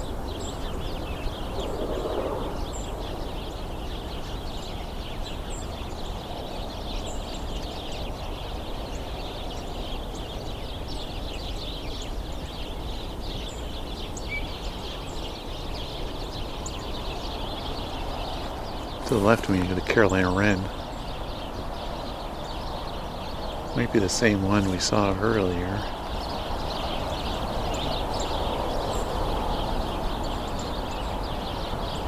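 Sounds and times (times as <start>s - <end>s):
flock of small birds chattering: 0.0s - 32.0s.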